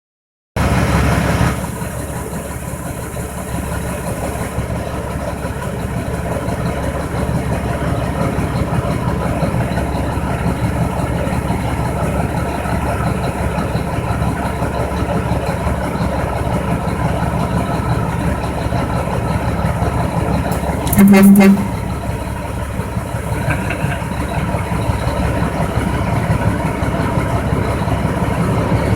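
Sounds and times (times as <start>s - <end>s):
diesel truck engine idling: 0.6s - 28.9s.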